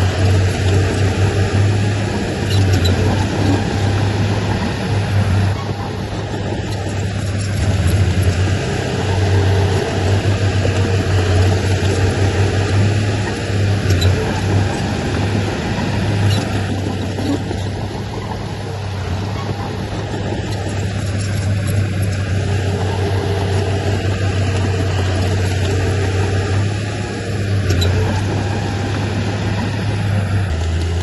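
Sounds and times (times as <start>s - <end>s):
heavy diesel machinery engine running: 0.0s - 31.0s.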